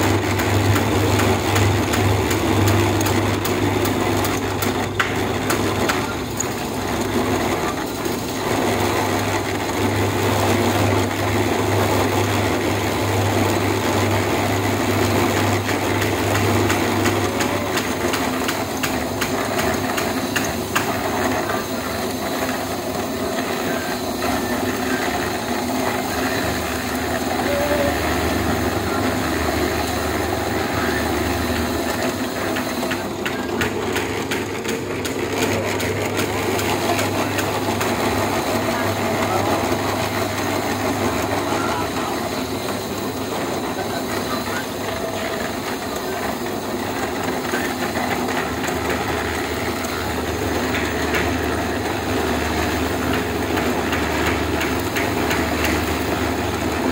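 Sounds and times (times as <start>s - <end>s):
concrete mixer running: 0.0s - 56.9s.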